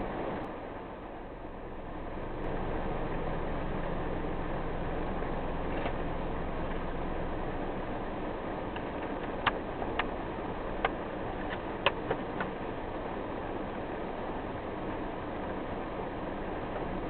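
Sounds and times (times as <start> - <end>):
car driving: 0.0 - 17.0
steady rain: 0.0 - 17.0.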